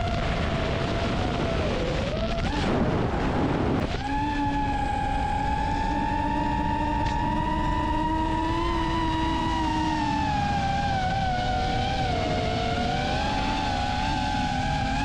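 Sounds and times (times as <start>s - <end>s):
drone propellers whining: 0.0s - 15.0s
wind noise: 0.0s - 15.0s.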